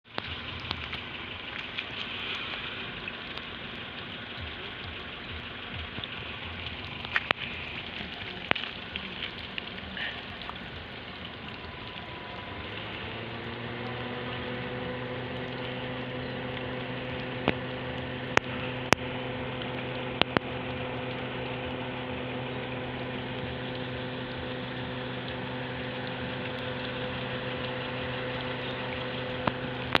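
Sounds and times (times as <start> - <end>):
electric fan motor humming: 0.1 - 30.0.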